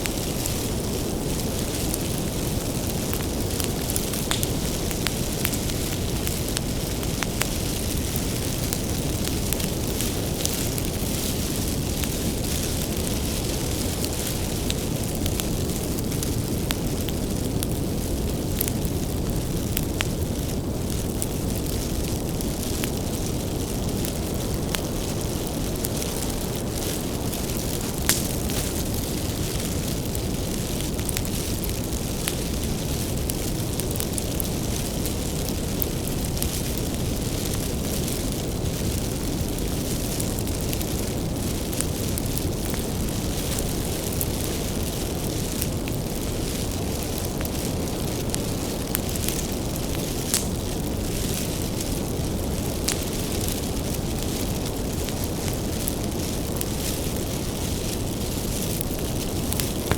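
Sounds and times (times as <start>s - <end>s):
fire crackling and popping: 0.0s - 59.9s
rumble of fire flames: 0.0s - 59.9s.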